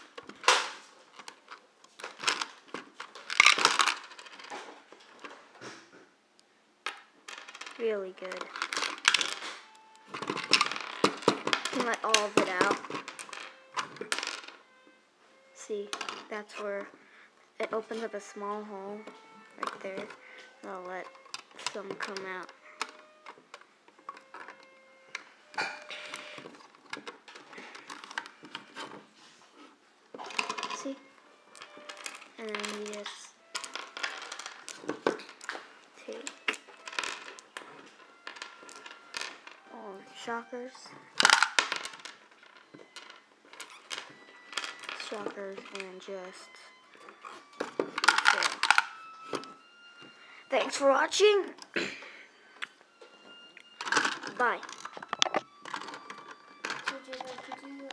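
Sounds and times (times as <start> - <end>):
small candies rattling: 0.0 - 5.3, 7.3 - 14.6, 15.4 - 16.5, 17.7 - 29.0, 30.2 - 51.3, 52.6 - 57.9
plastic bricks clicking: 0.1 - 5.3, 6.8 - 14.6, 15.8 - 16.7, 17.6 - 29.0, 30.1 - 49.7, 53.6 - 57.9.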